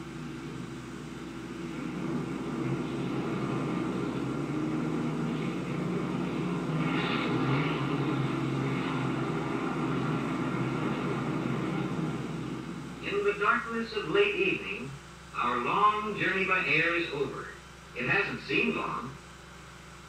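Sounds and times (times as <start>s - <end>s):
propeller engines running: 0.0s - 20.0s.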